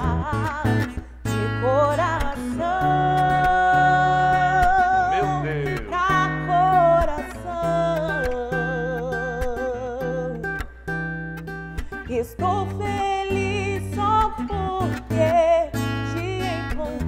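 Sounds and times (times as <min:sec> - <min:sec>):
woman singing gospel: 0:00.0 - 0:10.6, 0:12.1 - 0:17.0
acoustic guitar picked and strummed: 0:00.0 - 0:17.0.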